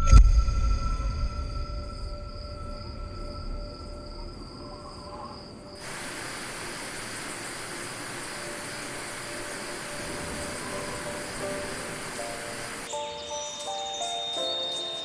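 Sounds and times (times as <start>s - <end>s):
soft sustained musical tones: 0.0s - 15.0s
insect chorus: 0.1s - 15.0s.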